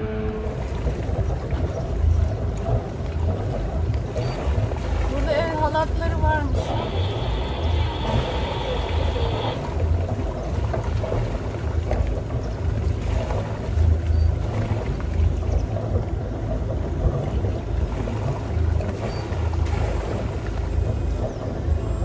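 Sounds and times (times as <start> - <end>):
boat engine low rumble: 0.0 - 22.0.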